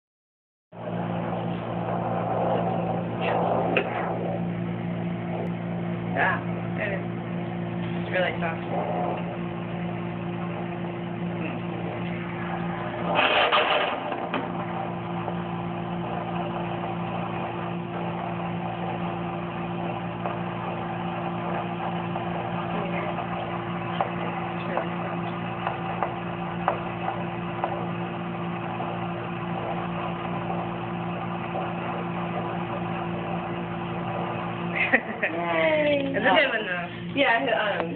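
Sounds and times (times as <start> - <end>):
doppler speaker hiss and hum: 0.7 - 37.9
loud rush: 0.8 - 34.7.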